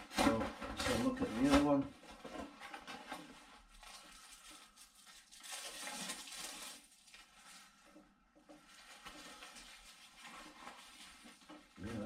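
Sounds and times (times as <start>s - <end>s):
paper wrapping rustling: 0.0s - 12.0s.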